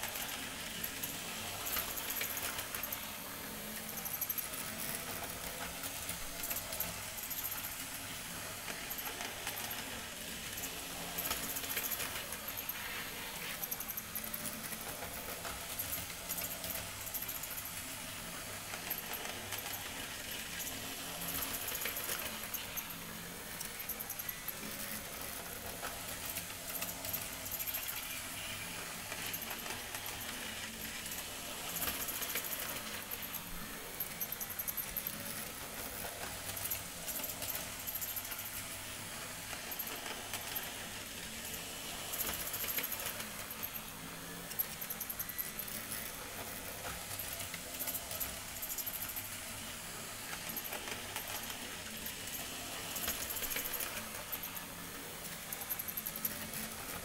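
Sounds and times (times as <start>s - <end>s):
model train humming: 0.0s - 57.0s.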